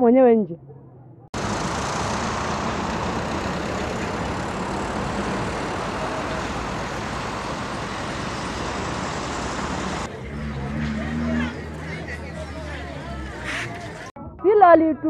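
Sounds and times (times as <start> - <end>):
road traffic rush: 0.6 - 14.2.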